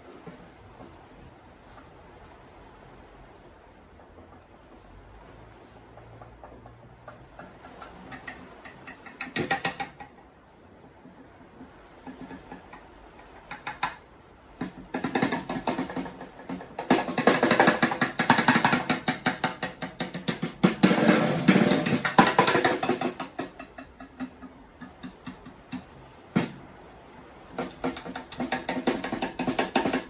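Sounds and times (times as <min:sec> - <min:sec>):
raindrops tapping on hard surface: 0:03.4 - 0:26.7, 0:27.5 - 0:30.0.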